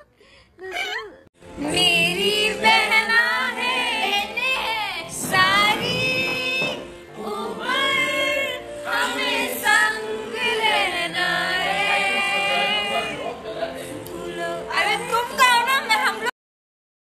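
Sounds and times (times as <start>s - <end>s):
young voices singing: 0.7s - 16.3s.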